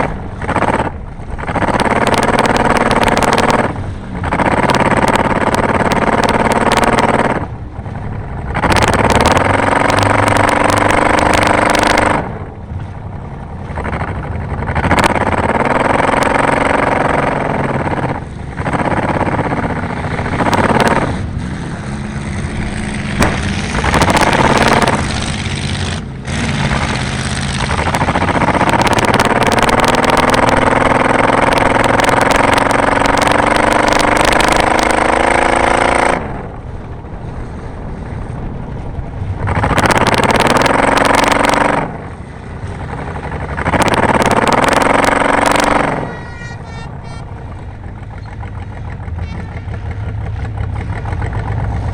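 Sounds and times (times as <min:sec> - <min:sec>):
race car engine revving: 0:00.0 - 0:12.6, 0:13.3 - 0:51.9.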